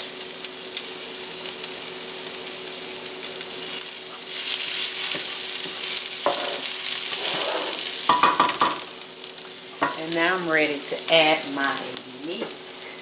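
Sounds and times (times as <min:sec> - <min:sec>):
vegetables sizzling in a skillet: 0:00.0 - 0:13.0.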